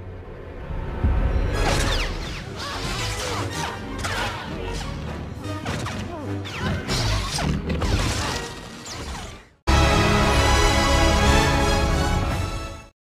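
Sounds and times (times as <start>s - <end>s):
film music: 0.0s - 12.9s.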